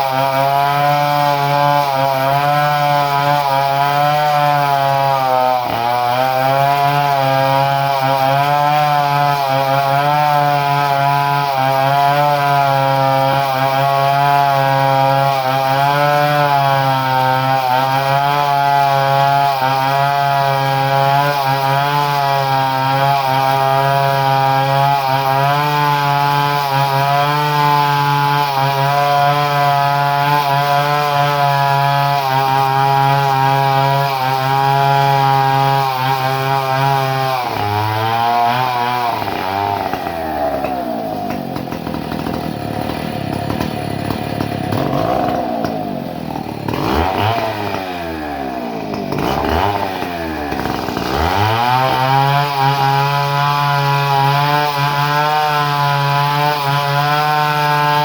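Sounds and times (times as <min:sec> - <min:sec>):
chainsaw engine running: 0:00.0 - 0:58.0.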